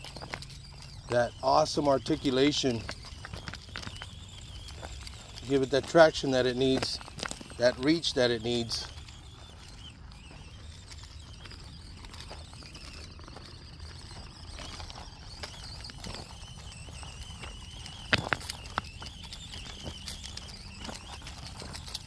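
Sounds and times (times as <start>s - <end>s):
small electric motor whining: 0.0s - 22.0s
tyres clicking over rocks: 0.0s - 22.0s.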